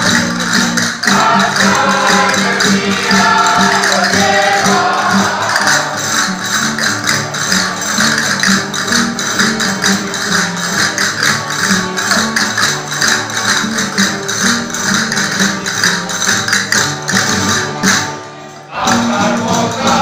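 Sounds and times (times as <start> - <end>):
folk dance melody: 0.0 - 20.0
tambourines jingling: 0.0 - 20.0.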